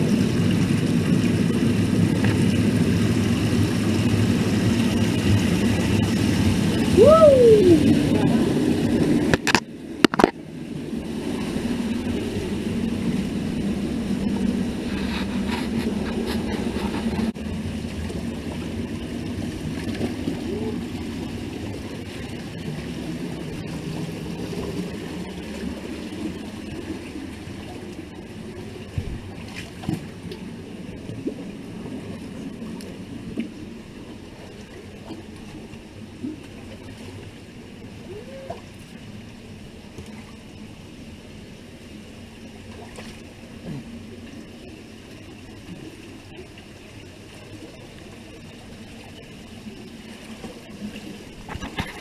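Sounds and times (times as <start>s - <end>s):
stream rushing over rock: 0.0s - 36.3s, 42.7s - 52.0s.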